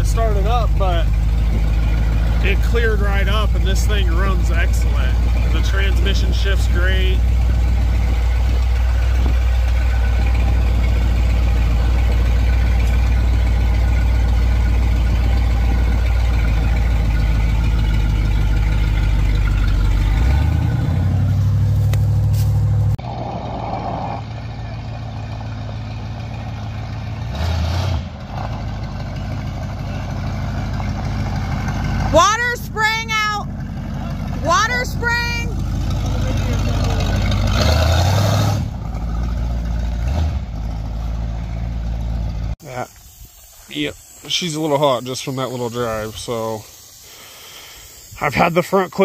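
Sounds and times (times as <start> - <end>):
car engine running while driving: 0.0 - 48.2.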